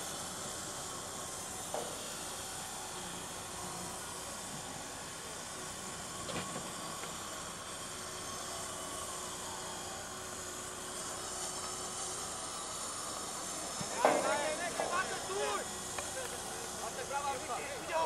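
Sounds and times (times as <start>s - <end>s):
outdoor ambience hiss: 0.0s - 18.0s.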